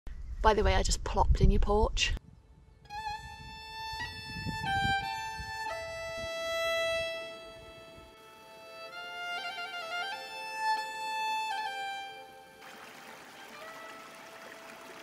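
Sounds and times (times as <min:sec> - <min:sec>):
slow melody of held notes: 0:02.8 - 0:15.0.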